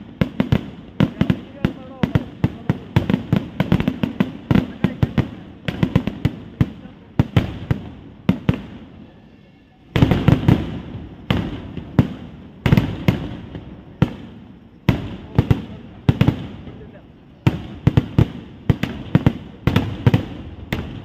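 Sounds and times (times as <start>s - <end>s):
fireworks sharp bangs: 0.0s - 21.0s.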